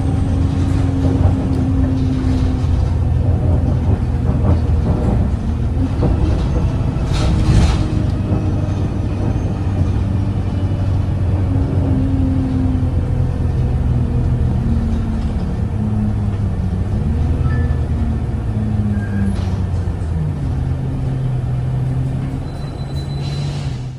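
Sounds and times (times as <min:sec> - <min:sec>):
bus engine low rumble: 0:00.0 - 0:23.9.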